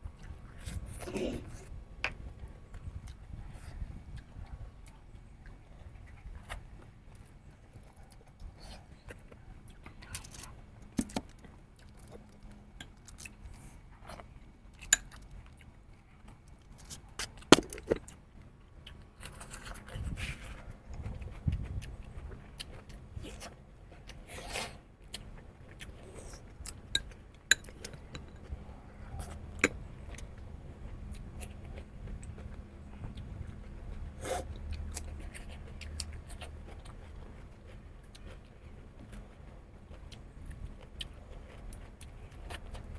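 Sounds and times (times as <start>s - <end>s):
person chewing meat and bone: 0.1s - 42.9s.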